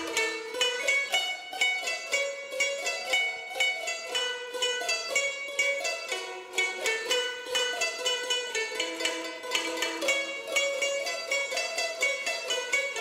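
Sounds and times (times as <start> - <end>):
plucked lutes playing melody: 0.0 - 13.0.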